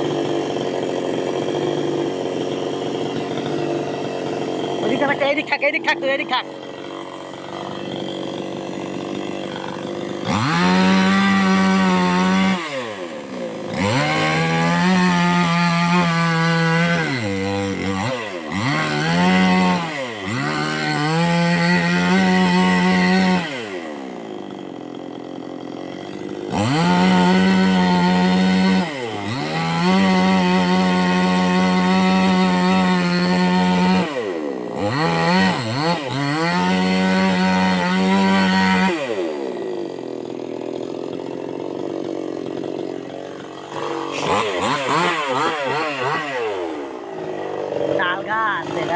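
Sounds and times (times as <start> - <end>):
chainsaw revving and idling: 0.0 - 48.9.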